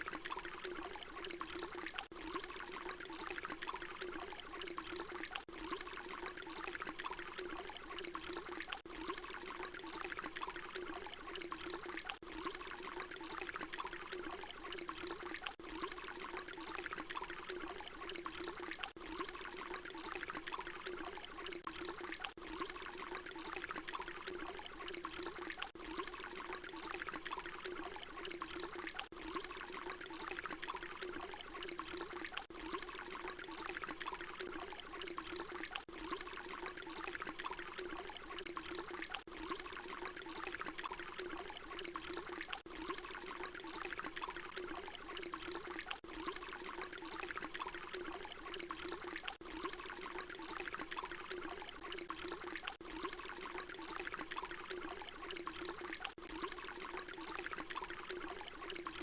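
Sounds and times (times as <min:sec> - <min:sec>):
water pouring in a stream: 0:00.0 - 0:59.0.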